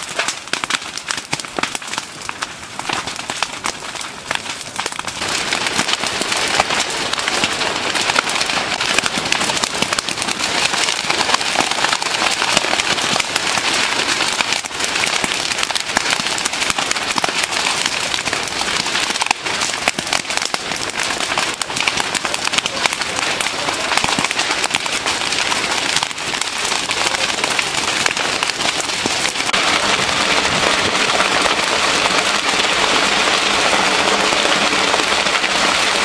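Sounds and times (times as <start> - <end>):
flames crackling and popping: 0.0 - 36.0.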